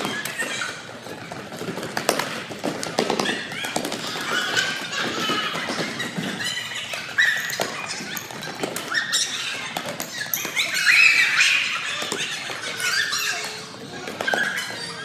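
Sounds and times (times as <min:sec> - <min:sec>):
sneakers squeaking on floor: 0:00.0 - 0:15.0.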